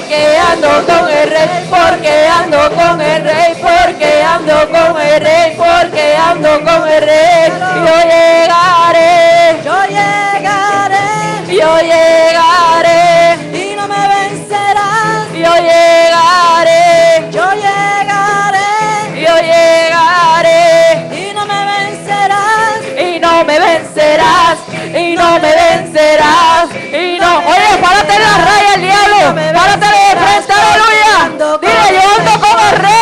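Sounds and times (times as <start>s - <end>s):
women singing worship chorus: 0.0s - 21.2s, 21.9s - 33.0s.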